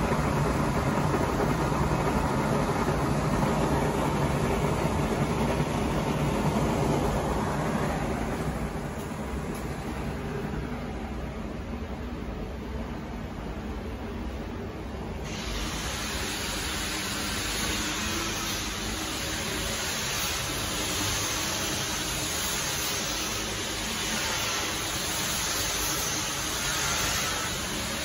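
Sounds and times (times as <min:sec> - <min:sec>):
fan rushing air hiss: 0:00.0 - 0:28.0.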